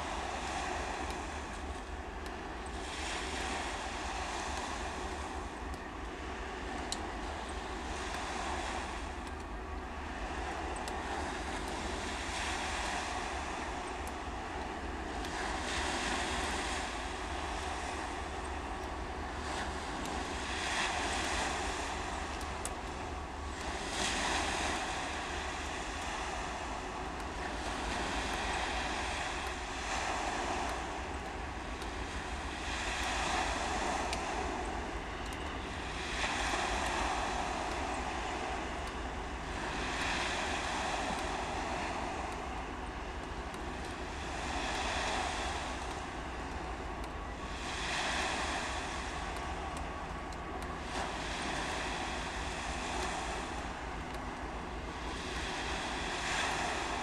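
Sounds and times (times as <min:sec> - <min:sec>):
low wind rumble on microphone: 0:00.0 - 0:57.0
small waves washing onto shore: 0:00.0 - 0:57.0.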